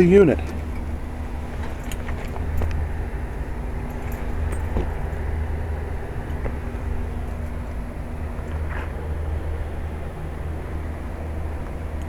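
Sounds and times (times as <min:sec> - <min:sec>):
air conditioning unit humming: 0:00.0 - 0:12.0.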